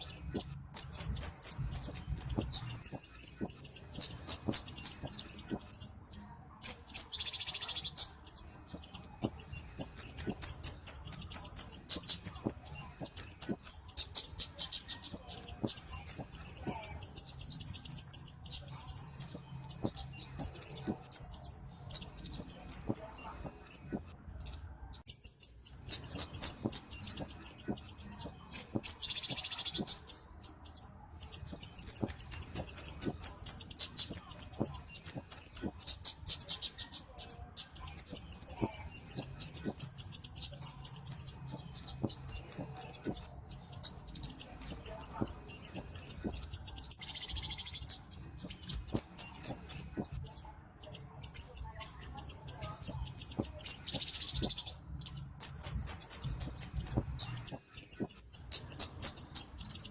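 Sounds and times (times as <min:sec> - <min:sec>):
bird calling high chips: 0:00.0 - 0:59.9.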